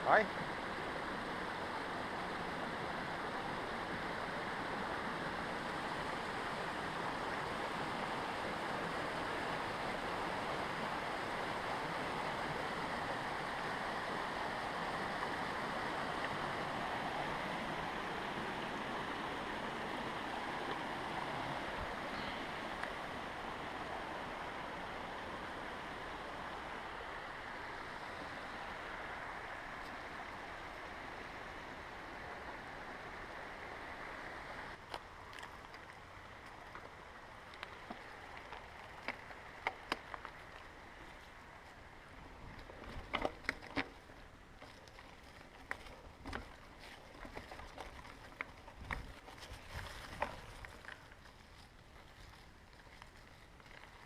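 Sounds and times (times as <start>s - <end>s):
flowing water rushing: 0.0s - 51.6s.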